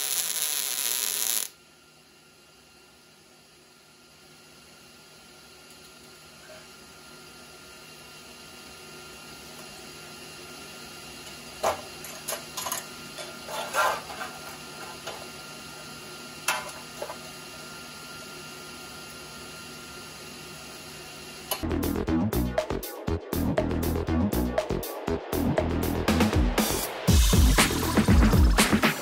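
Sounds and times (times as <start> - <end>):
low shop hum: 0.0 - 29.0.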